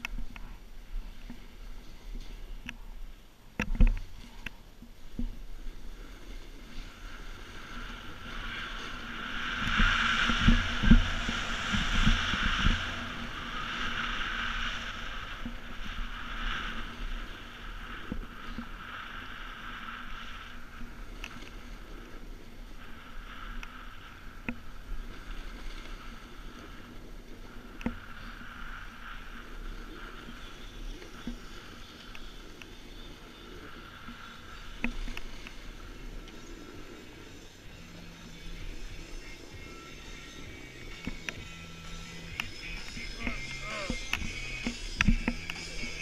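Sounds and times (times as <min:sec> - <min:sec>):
snowboard scraping over snow: 0:05.2 - 0:46.0.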